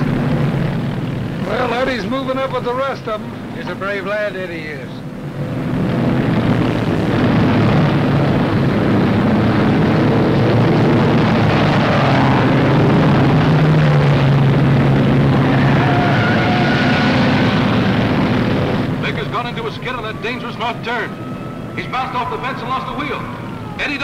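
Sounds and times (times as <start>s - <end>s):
racing car engines droning: 0.0s - 24.0s.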